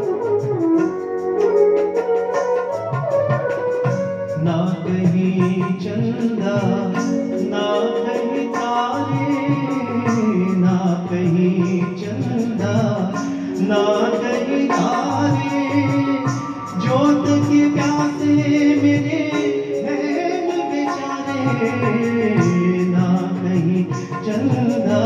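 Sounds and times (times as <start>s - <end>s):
keyboard: 0.0s - 25.0s
tabla beat: 0.0s - 25.0s
man singing: 4.4s - 25.0s.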